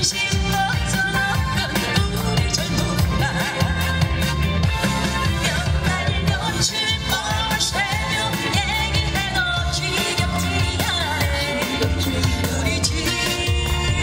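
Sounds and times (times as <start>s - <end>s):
woman singing with vibrato: 0.0s - 4.6s, 5.2s - 14.0s
backing band with heavy bass: 0.0s - 14.0s.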